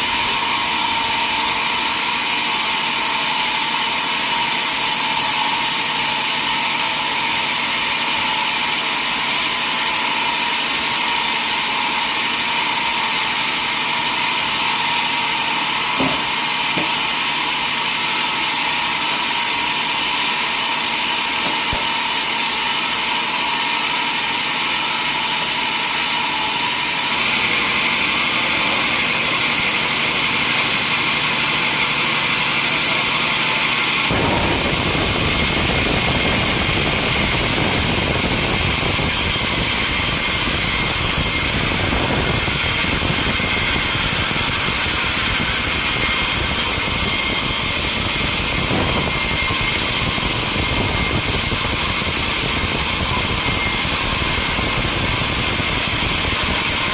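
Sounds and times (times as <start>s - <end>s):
sawmill machinery running: 0.0s - 56.9s.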